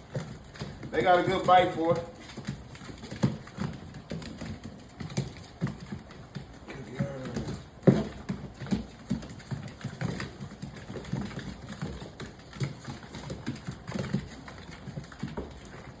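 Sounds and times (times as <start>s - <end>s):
puppies chewing: 0.0s - 16.0s.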